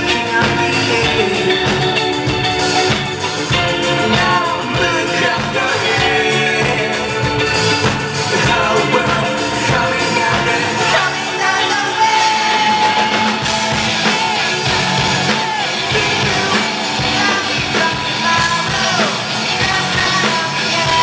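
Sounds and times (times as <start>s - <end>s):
electric guitar: 0.0s - 21.0s
live rock band playing: 0.0s - 21.0s
man singing: 0.0s - 21.0s.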